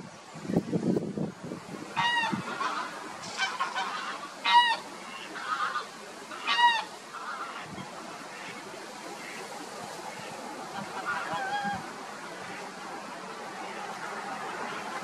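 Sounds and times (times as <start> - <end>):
geese honking loudly: 1.9 - 15.0
soft calls of geese flock: 1.9 - 15.0.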